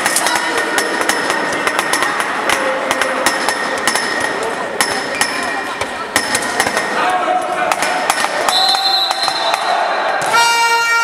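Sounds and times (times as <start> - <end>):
sharp knocks echoing in hall: 0.0 - 11.0.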